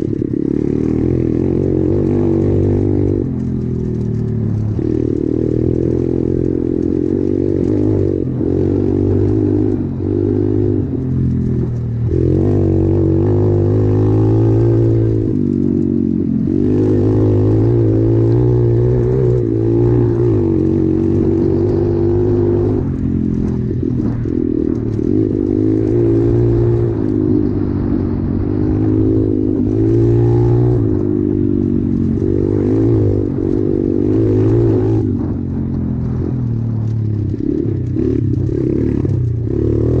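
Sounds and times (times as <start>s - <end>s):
motorbike engine revving: 0.0s - 40.0s.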